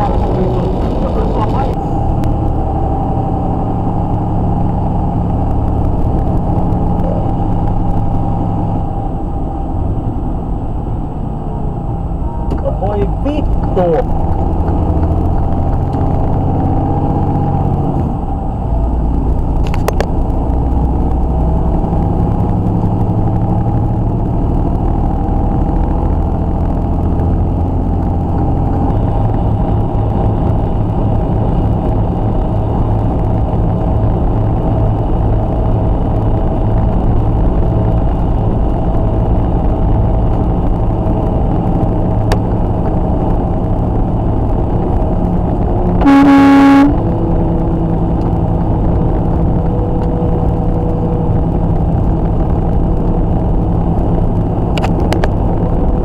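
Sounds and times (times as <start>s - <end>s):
diesel truck engine droning: 0.0s - 56.0s
road noise: 0.0s - 56.0s.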